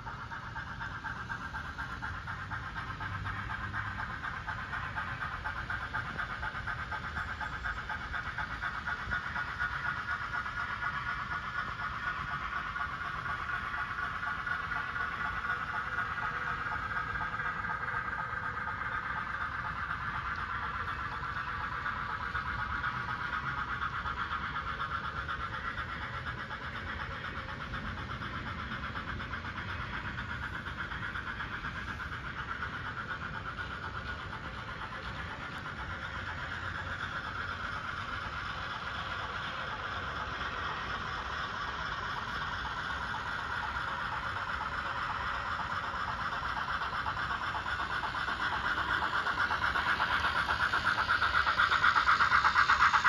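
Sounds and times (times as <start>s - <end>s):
model train mechanical hum: 0.0s - 53.0s
wheels rattling on rail: 0.0s - 53.0s.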